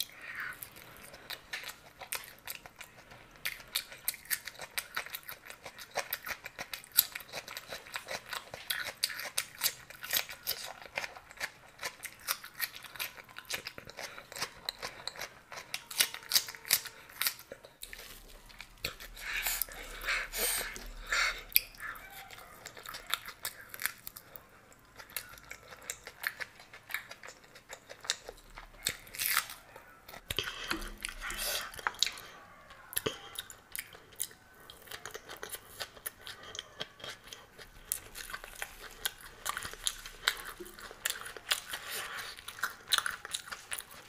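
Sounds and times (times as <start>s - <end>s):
crisp crunching and chewing: 0.0s - 44.0s.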